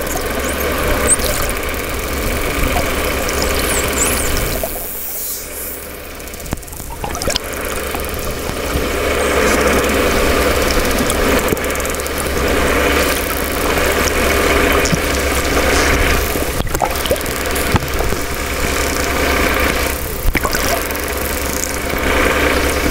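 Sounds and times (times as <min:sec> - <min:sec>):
dolphin clicks: 0:00.0 - 0:05.5, 0:06.2 - 0:22.5
low underwater hum: 0:00.0 - 0:22.9
underwater buzzing: 0:00.0 - 0:22.9.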